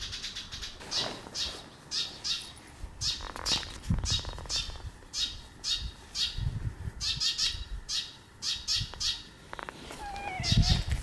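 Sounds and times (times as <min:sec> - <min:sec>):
bird calling harshly: 0:00.0 - 0:06.4, 0:07.0 - 0:10.9.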